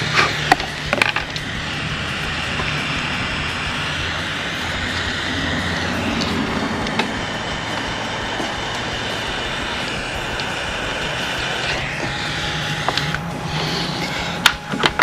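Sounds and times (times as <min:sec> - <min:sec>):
torch flame rushing: 0:00.0 - 0:15.0.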